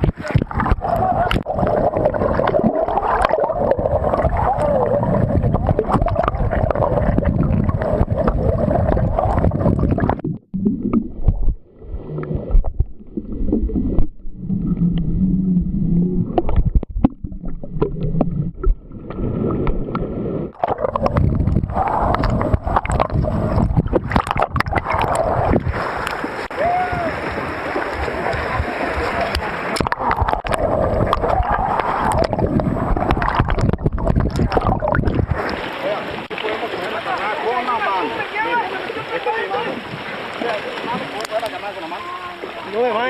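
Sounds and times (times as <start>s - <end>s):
water sloshing and gurgling: 0.0s - 43.0s.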